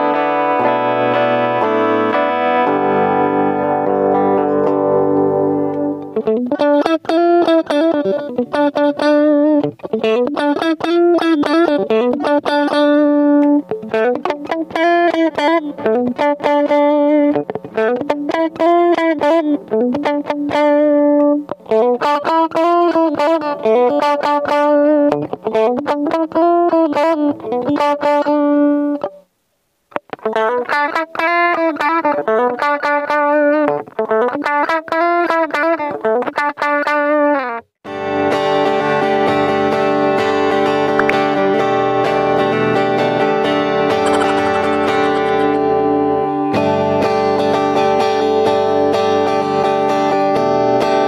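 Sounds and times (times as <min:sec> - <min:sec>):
electric guitar lead with bends: 0:00.0 - 0:29.2, 0:30.0 - 0:51.0.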